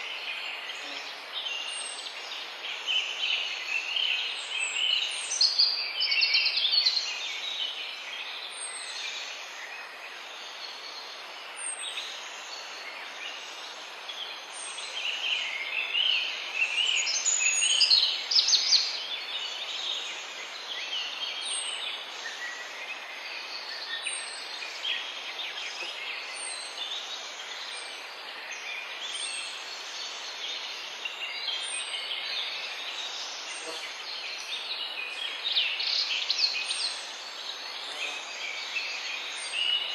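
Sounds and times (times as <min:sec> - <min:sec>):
background hiss: 0:00.0 - 0:39.9
birds singing: 0:00.0 - 0:39.9.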